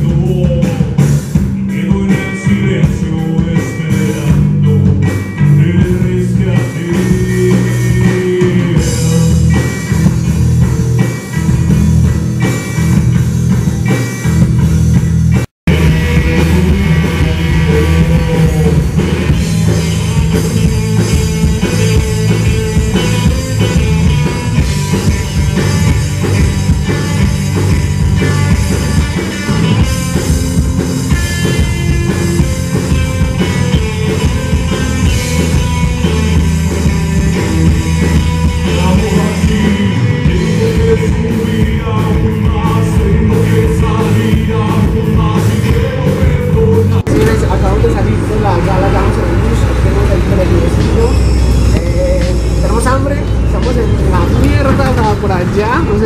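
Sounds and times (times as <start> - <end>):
man singing: 0.0 - 11.7, 15.7 - 30.3, 31.1 - 56.0
drum beats: 0.0 - 56.0
live rock band playing: 0.0 - 56.0.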